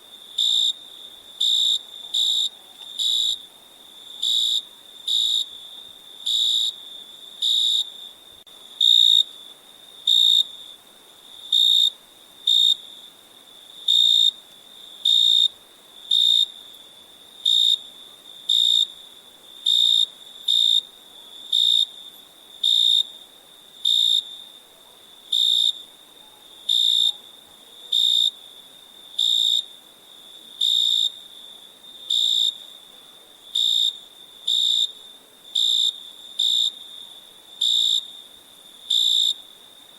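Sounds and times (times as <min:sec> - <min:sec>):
cricket chirping: 0:00.0 - 0:39.9
faint continuous insect trill: 0:00.0 - 0:39.9.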